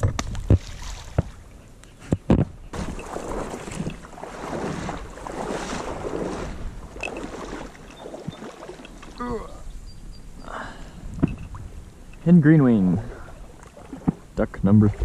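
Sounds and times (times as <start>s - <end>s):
wading through water: 0.4s - 1.8s, 2.6s - 9.7s, 10.4s - 15.0s.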